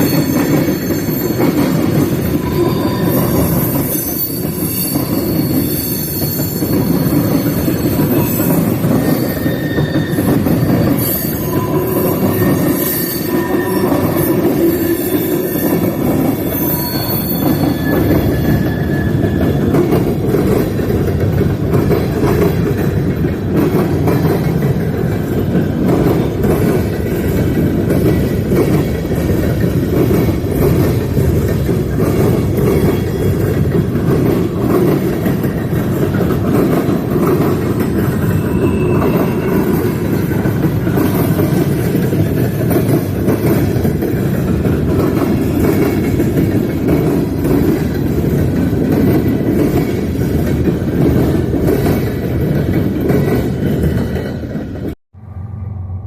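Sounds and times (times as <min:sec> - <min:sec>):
wheels clacking over rail joints: 0:00.0 - 0:55.0
freight train rumbling: 0:00.0 - 0:56.0.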